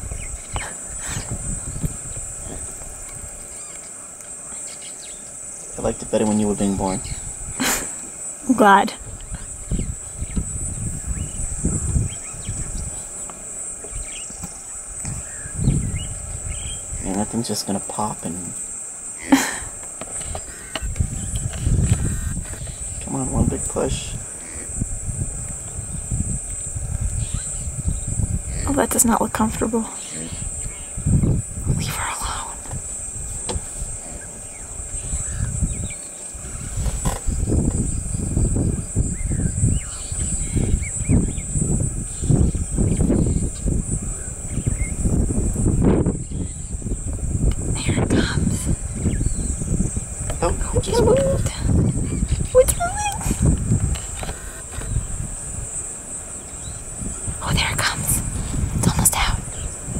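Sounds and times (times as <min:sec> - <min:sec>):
microphone rumble: 0:00.0 - 0:03.6, 0:05.8 - 0:17.4, 0:19.2 - 0:59.9
high-pitched insect drone: 0:00.0 - 0:59.9.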